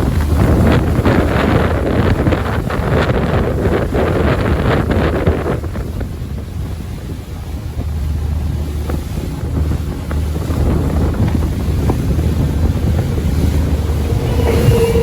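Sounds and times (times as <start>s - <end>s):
boat engine drone: 0.0s - 15.0s
wind buffeting microphone: 0.0s - 15.0s.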